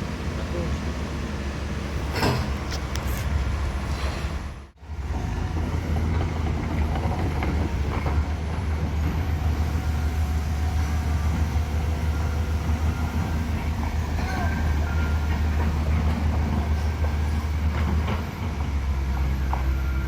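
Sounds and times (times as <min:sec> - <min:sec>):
truck engine low rumble: 0:00.0 - 0:20.0.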